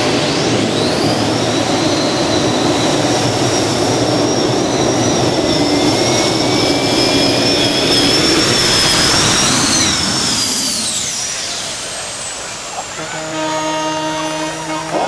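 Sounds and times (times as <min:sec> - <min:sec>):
gas turbines roaring with high whine: 0:00.0 - 0:15.0.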